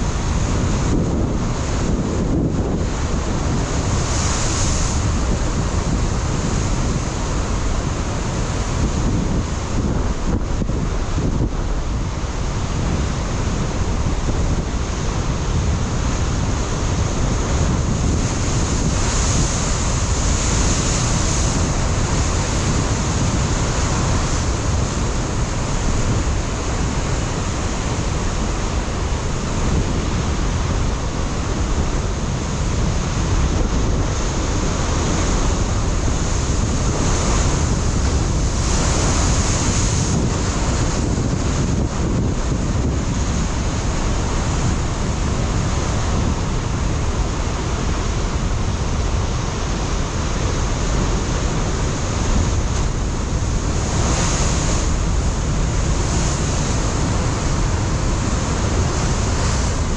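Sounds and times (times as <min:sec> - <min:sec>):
wind buffeting microphone: 0:00.0 - 0:59.9
waves breaking on rocks: 0:00.1 - 0:59.9.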